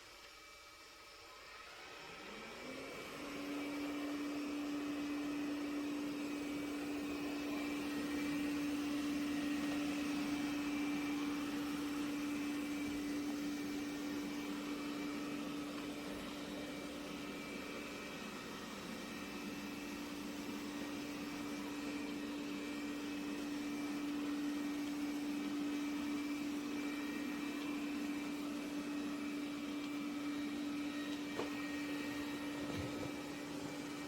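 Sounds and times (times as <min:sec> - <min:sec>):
robot vacuum motor running: 0:00.2 - 0:34.0.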